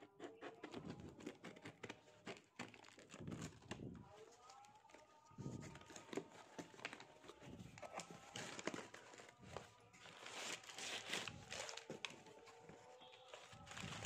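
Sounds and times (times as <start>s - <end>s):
newspaper rustling and crinkling: 2.3s - 14.0s.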